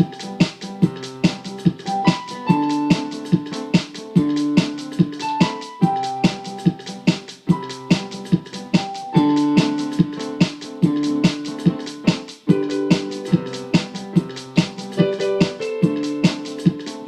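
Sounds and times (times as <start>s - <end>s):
electric piano melody: 0.0s - 17.0s
steady percussive beat: 0.0s - 17.0s.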